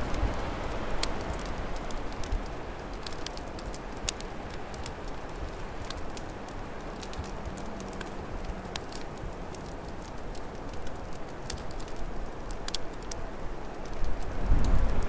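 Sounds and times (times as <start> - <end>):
low rumble of wind: 0.0 - 15.0
wood fire crackling and popping: 0.0 - 15.0.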